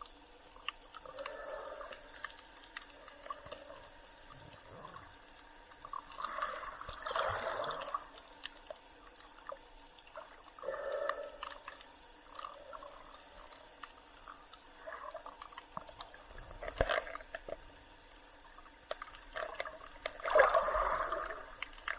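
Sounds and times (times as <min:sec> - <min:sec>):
water sloshing and gurgling: 0:00.0 - 0:21.9.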